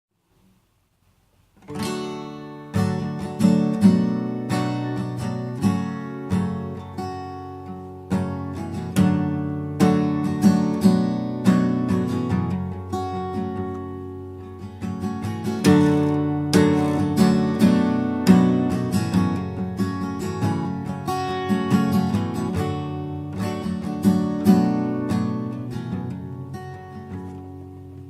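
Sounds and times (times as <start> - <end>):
acoustic guitar strumming: 1.6 - 28.0.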